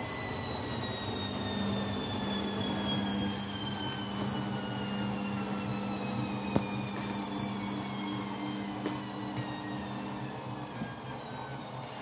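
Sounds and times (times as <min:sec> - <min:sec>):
washing machine motor whine: 0:00.0 - 0:12.0.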